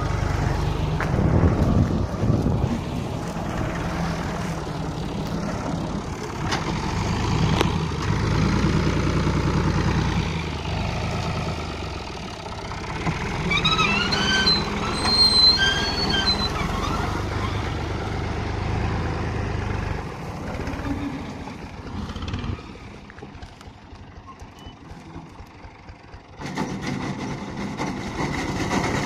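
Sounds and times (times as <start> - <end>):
tractor engine running under load: 0.0 - 29.0.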